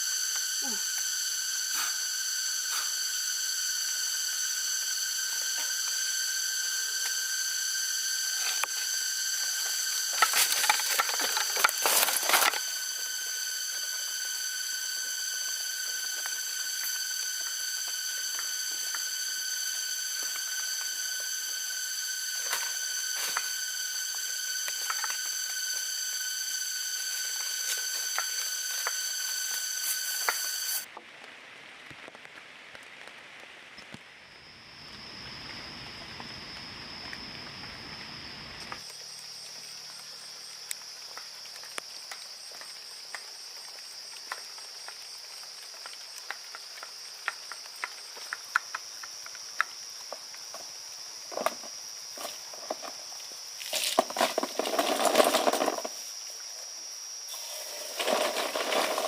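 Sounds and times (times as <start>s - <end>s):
high insect trill: 0.0s - 30.9s, 34.2s - 59.0s
insects droning: 0.0s - 31.8s, 32.8s - 59.0s.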